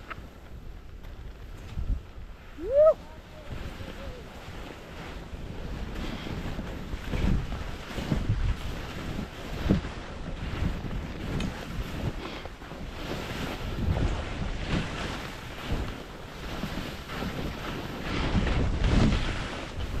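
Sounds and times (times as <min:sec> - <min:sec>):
skis hissing through snow: 0:00.0 - 0:20.0
wind rumbling over microphone: 0:00.0 - 0:20.0.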